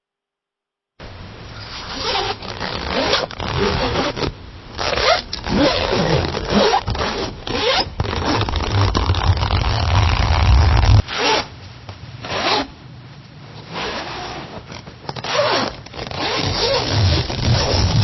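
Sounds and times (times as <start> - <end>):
zipper zipping: 1.7 - 11.5, 12.2 - 12.7, 13.6 - 18.0.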